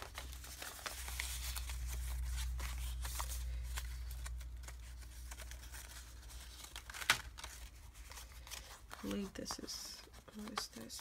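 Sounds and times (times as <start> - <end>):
paper pages rustling and turning: 0.0 - 11.0.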